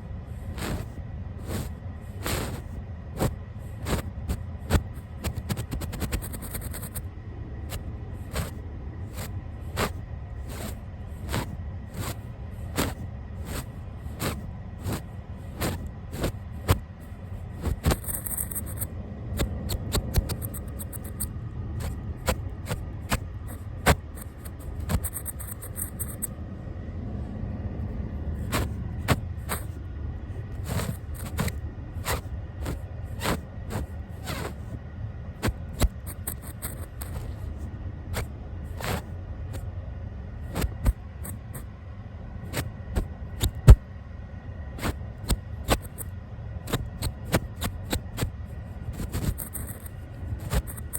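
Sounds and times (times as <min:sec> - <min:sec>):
brush scratching on microphone: 0:00.4 - 0:07.1, 0:07.7 - 0:26.4, 0:28.4 - 0:29.8, 0:30.5 - 0:34.8, 0:35.4 - 0:37.5, 0:38.2 - 0:39.6, 0:40.5 - 0:41.7, 0:42.5 - 0:43.8, 0:44.8 - 0:46.1, 0:46.7 - 0:50.9.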